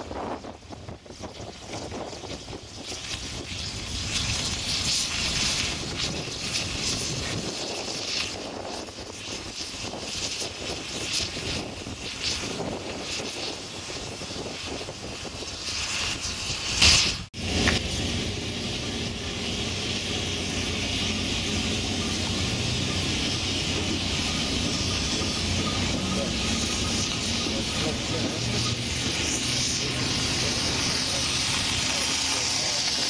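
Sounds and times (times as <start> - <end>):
wheels rumbling on rails: 0.0 - 16.8, 17.4 - 33.0
loud burst of noise: 0.0 - 33.0
steam exhaust rushing: 0.0 - 33.0.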